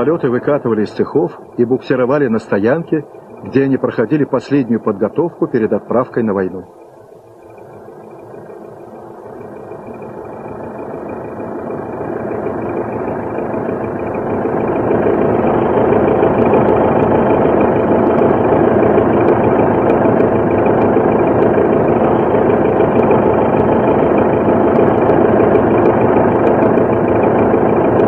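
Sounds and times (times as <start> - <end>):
piston aircraft engine running: 0.0 - 28.0.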